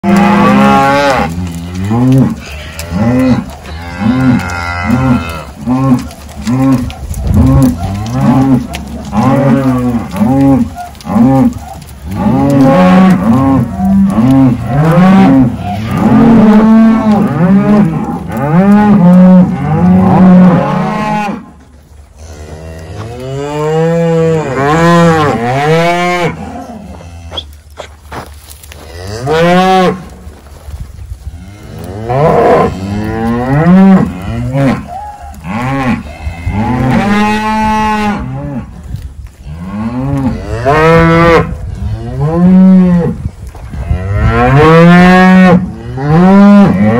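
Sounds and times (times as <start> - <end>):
cattle mooing: 0.0 - 21.6, 22.2 - 27.5, 28.8 - 30.1, 31.4 - 38.7, 39.5 - 46.9.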